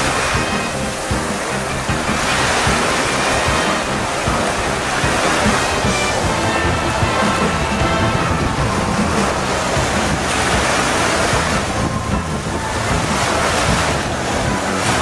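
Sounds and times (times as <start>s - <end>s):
surf washing onto shore: 0.0s - 15.0s
wind buffeting microphone: 0.0s - 15.0s.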